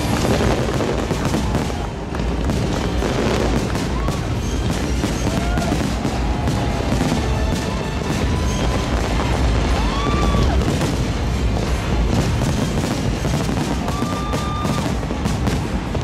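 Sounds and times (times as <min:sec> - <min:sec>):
firework whistles: 0:00.0 - 0:16.0
fireworks booming and crackling: 0:00.0 - 0:16.0
low rumble: 0:00.0 - 0:16.0.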